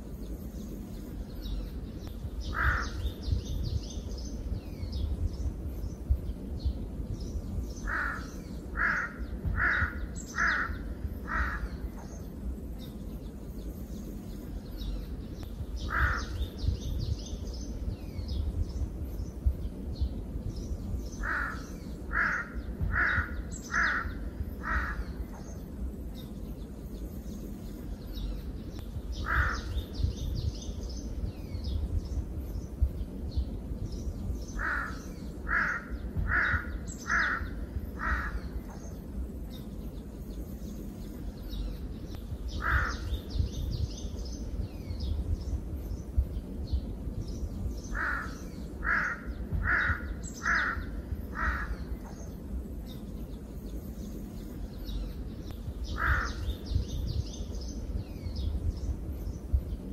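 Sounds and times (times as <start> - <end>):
low rumble: 0.0 - 59.9
small birds chirping: 0.0 - 59.9
large bird calling: 0.6 - 6.2, 7.3 - 19.6, 20.6 - 32.9, 33.9 - 46.3, 47.3 - 58.6.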